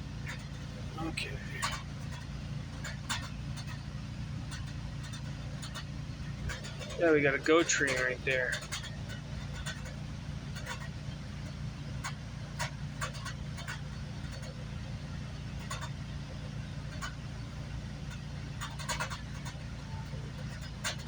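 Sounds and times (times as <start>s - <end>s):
sharp clicks and rattles: 0.0s - 21.0s
train rumbling: 0.0s - 21.0s.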